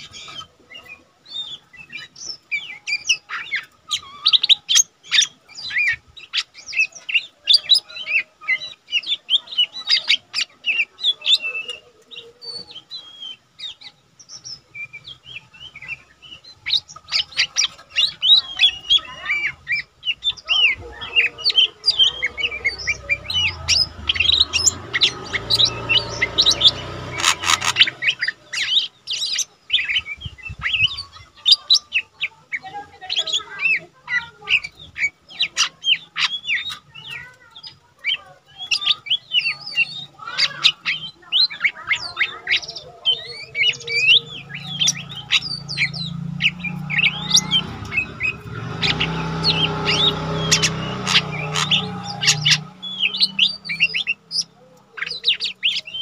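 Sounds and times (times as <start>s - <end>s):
bird singing fast chirps: 0.0s - 56.0s.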